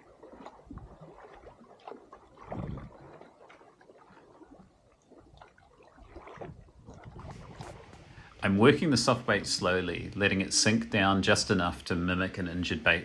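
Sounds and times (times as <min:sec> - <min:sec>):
water lapping against kayak hull: 0:00.0 - 0:13.0.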